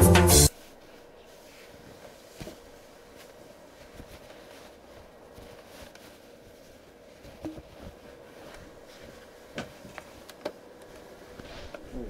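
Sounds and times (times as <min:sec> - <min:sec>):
faint hum: 0:00.0 - 0:12.0
soft knocks and rustles: 0:00.8 - 0:11.9.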